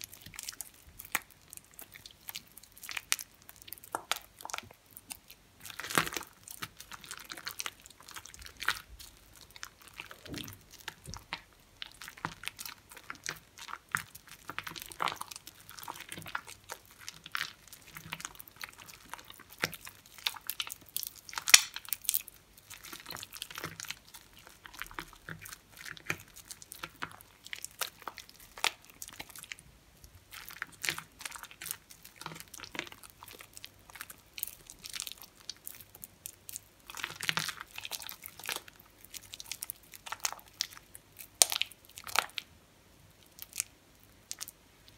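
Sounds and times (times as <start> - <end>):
hands squishing wet soap: 0.0 - 42.5, 43.1 - 44.9
soap crackling: 0.0 - 42.5.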